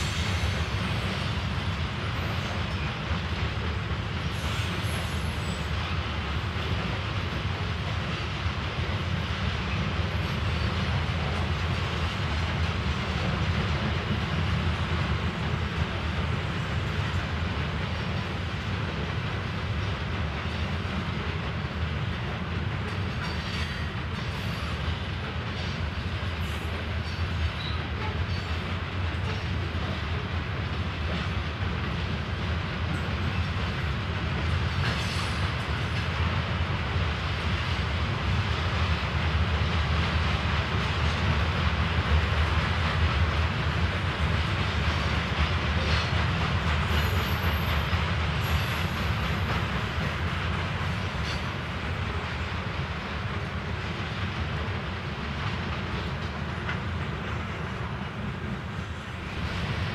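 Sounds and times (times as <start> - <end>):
rail clicks: 0.0 - 59.9
train wheels rumbling on rails: 0.0 - 59.9.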